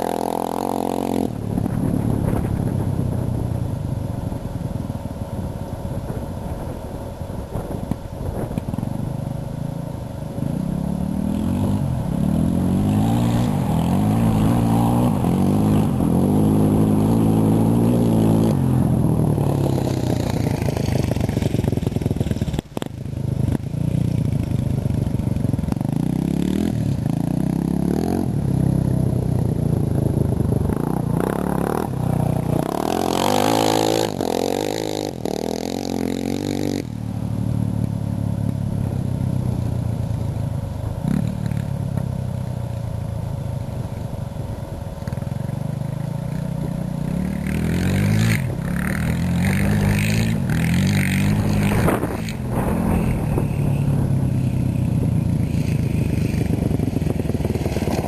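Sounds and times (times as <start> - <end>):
small petrol engine revving: 0.0 - 3.2, 10.3 - 43.2, 43.8 - 58.0.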